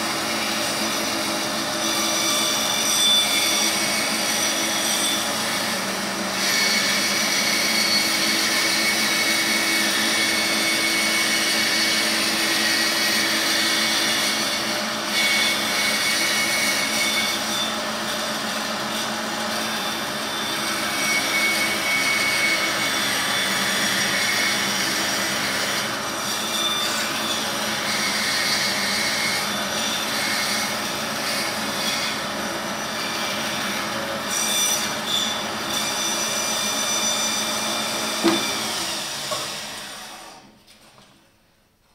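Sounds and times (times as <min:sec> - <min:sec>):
bandsaw cutting wood: 0:00.0 - 0:40.5.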